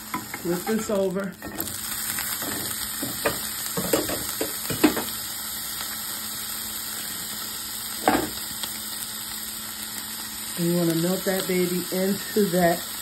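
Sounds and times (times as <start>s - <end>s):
sausage sizzling in a skillet: 0.0s - 13.0s.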